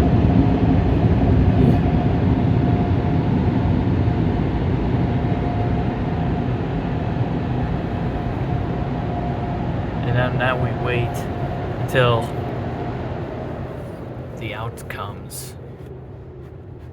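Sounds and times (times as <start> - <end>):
faint steady whine: 0.0 - 16.9.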